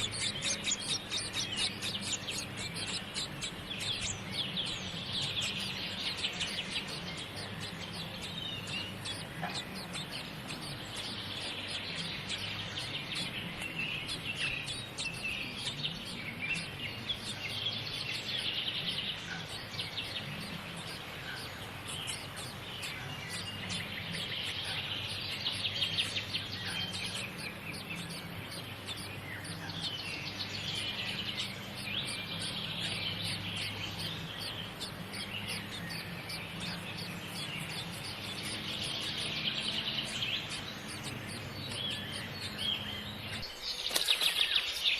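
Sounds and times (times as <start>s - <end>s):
low background hum: 0.0s - 43.9s
small birds chirping: 0.0s - 44.9s.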